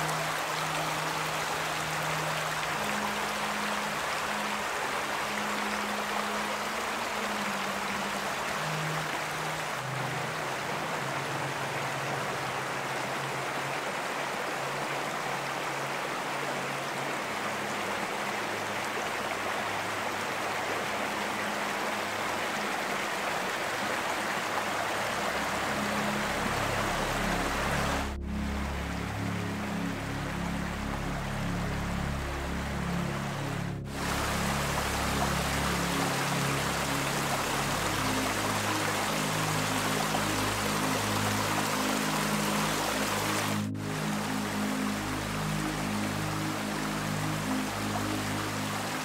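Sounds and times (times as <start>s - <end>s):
brook running over stones: 0.0s - 49.0s
soft background music: 0.0s - 49.0s.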